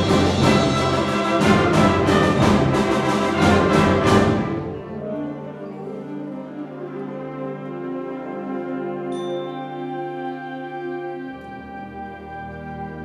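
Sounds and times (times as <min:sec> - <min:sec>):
wind band playing loudly: 0:00.0 - 0:13.0.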